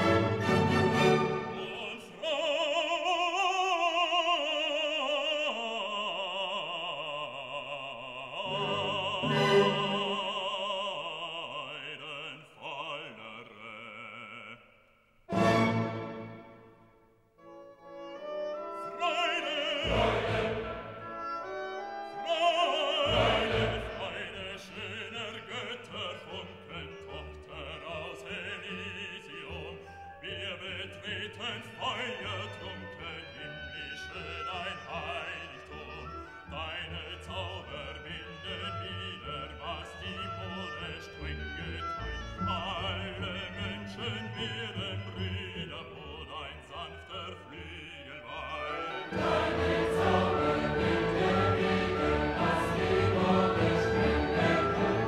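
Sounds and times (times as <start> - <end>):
orchestral accompaniment: 0.0 - 2.8, 8.4 - 10.8, 15.3 - 55.0
operatic voice singing: 0.8 - 15.9, 18.8 - 21.2, 22.1 - 55.0.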